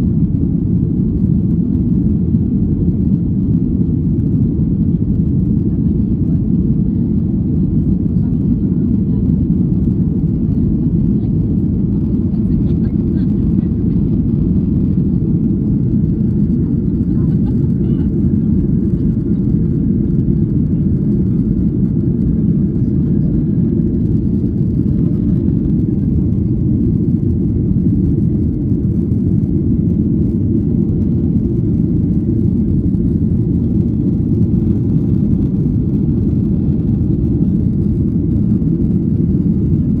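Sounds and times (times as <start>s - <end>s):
jet engines low rumble: 0.0s - 40.0s.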